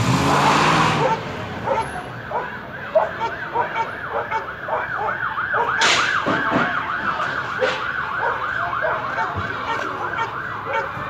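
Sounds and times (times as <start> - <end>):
police siren wailing: 0.3 - 11.0
people's voices: 0.6 - 11.0.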